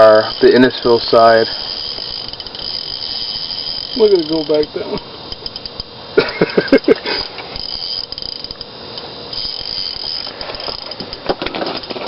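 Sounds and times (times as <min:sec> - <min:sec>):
fishing reel drag clicking: 0:00.0 - 0:05.9, 0:06.6 - 0:12.0.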